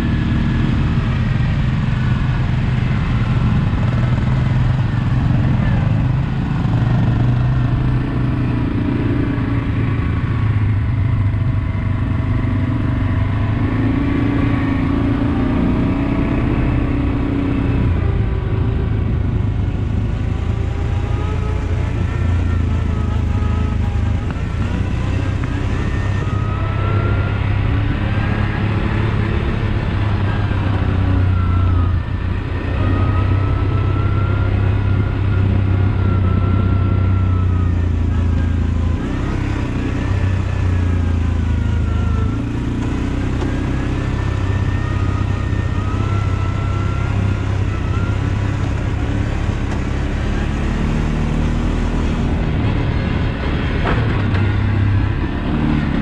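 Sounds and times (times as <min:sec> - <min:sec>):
atv engine humming: 0:00.0 - 0:56.0
high-pitched whine: 0:00.0 - 0:56.0.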